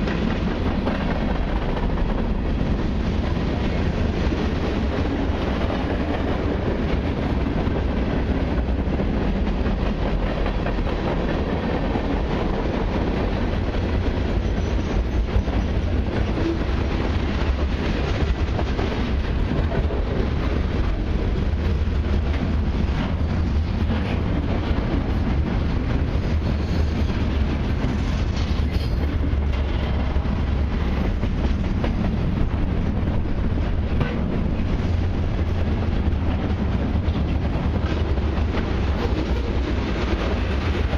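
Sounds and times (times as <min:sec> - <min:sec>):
freight train wheels rumbling: 0:00.0 - 0:40.9
wheels clickety-clack on rail joints: 0:00.0 - 0:40.9.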